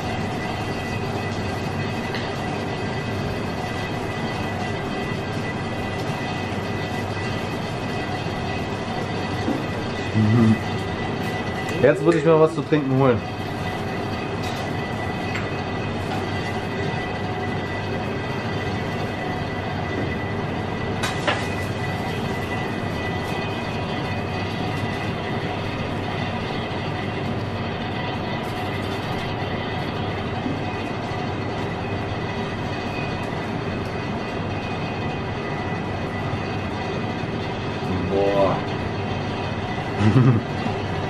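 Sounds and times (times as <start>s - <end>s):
kitchen equipment humming: 0.0s - 41.0s.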